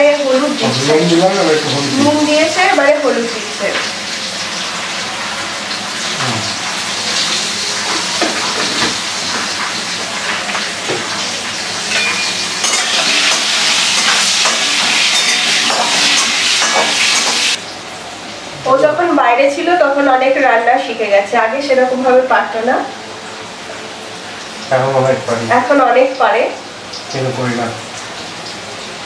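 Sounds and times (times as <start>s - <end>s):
potatoes sizzling in oil: 0.0s - 29.0s.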